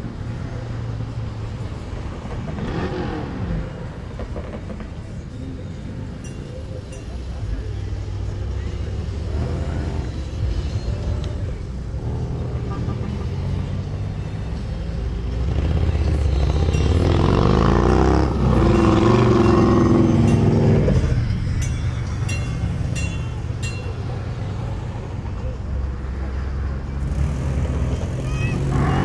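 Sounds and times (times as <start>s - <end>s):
parade cars engine rumble: 0.0s - 29.0s.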